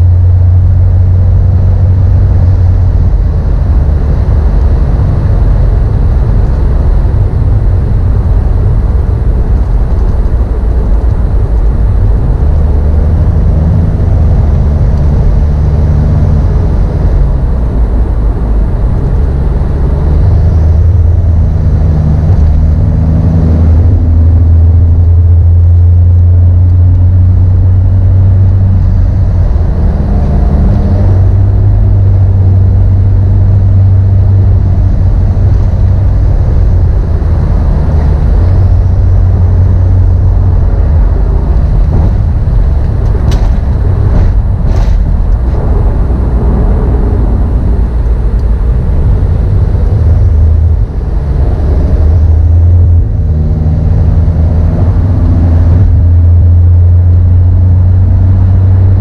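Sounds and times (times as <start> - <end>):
car engine droning while driving: 0.0 - 59.0.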